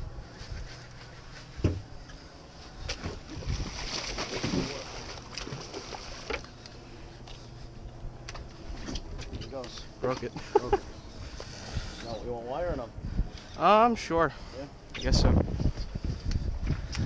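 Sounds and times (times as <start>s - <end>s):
boat engine humming: 0.0s - 15.2s.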